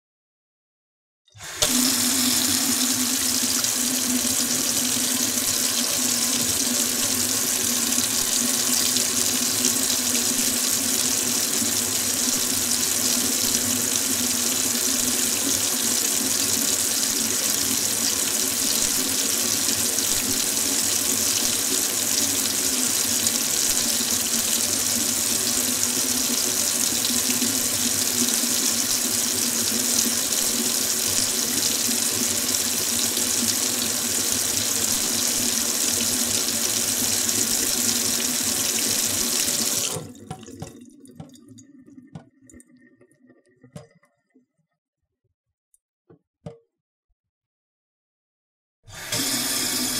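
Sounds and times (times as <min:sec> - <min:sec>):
faucet water running into sink: 0:01.3 - 0:43.9, 0:48.9 - 0:49.9.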